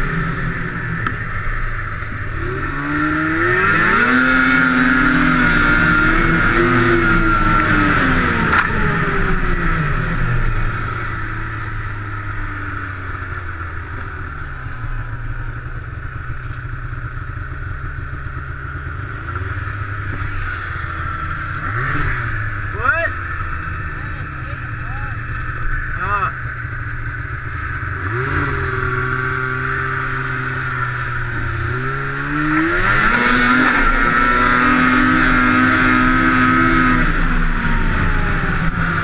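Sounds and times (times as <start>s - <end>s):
snowmobile engine revving: 0.0s - 15.7s, 17.2s - 39.0s.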